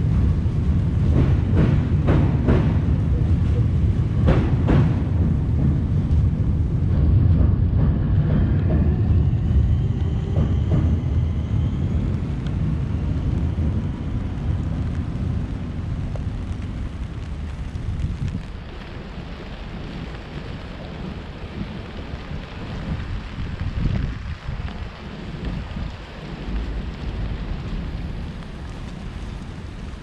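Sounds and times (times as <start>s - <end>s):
traffic noise: 0.0s - 30.0s
wind rumbling on microphone: 0.0s - 30.0s.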